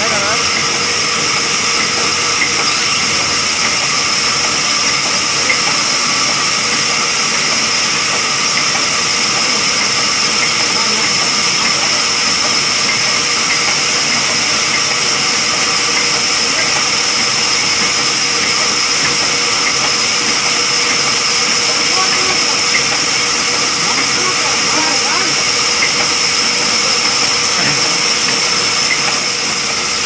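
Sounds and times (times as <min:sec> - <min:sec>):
band saw hissing and whining: 0:00.0 - 0:30.0.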